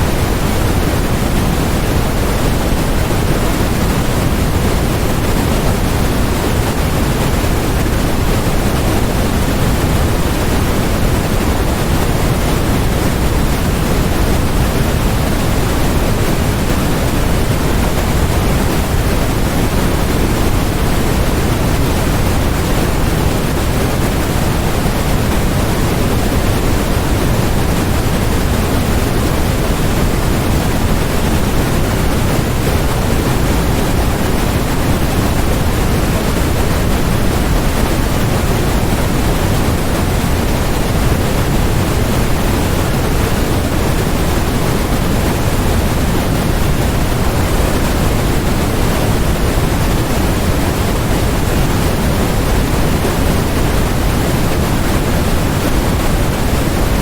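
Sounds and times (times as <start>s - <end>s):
steady low-weighted noise: 0.0s - 57.0s.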